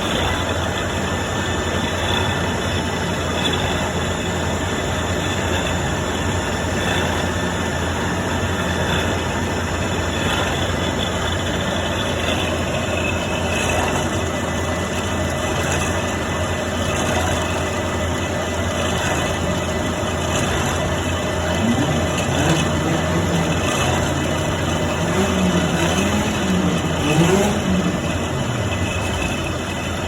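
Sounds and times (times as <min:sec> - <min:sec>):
milling machine running: 0:00.0 - 0:30.0.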